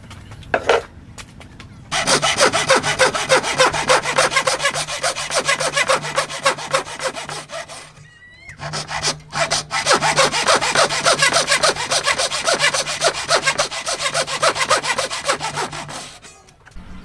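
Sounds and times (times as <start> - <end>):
hand saw cutting wood: 1.9 - 16.5.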